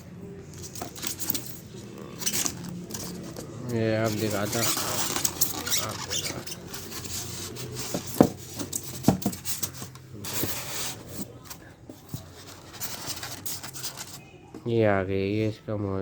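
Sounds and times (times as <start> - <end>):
packaging rustling: 0.5 - 14.2.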